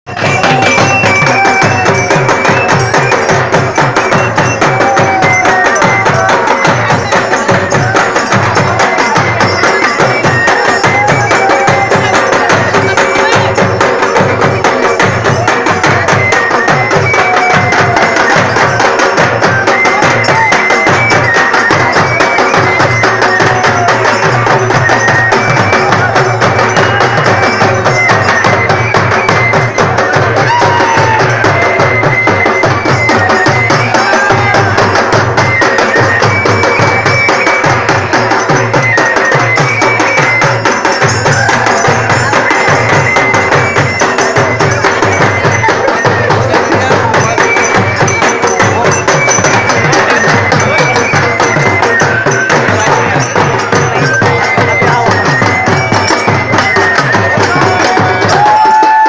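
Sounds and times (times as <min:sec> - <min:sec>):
crowd voices: 0:00.0 - 0:59.0
folk dance music: 0:00.0 - 0:59.0
hand-beaten drum: 0:00.1 - 0:59.0.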